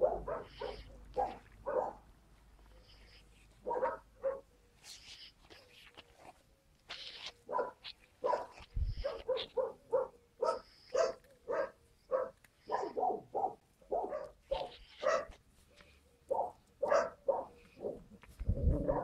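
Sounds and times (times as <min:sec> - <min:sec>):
puppies yapping and barking: 0:00.0 - 0:01.9, 0:02.7 - 0:18.0.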